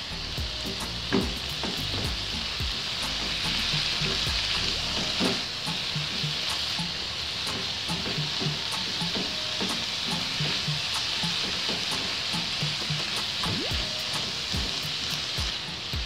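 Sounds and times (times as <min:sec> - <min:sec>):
cabbage sizzling in hot oil: 0:00.0 - 0:16.0.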